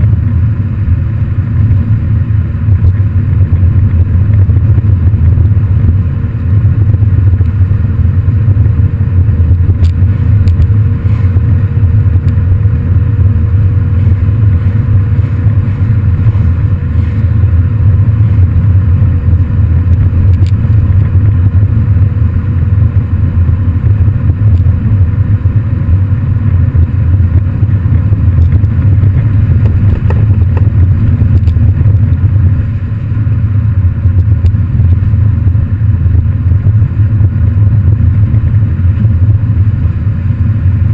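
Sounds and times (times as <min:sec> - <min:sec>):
car exhaust low rumble: 0:00.0 - 0:40.9.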